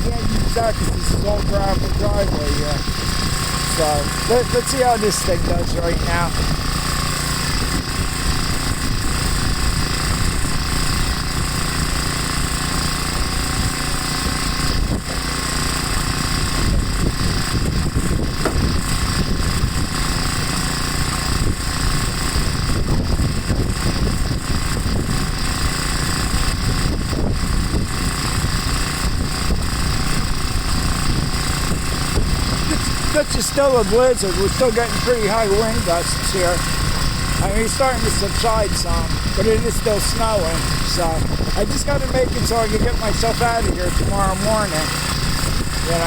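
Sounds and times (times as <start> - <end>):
snowblower engine running: 0.0 - 46.0.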